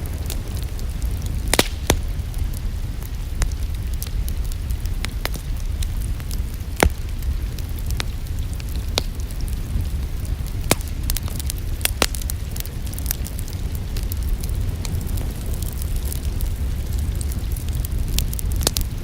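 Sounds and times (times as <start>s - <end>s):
low rumble of fire: 0.0s - 19.0s
wood fire crackling: 0.0s - 19.0s.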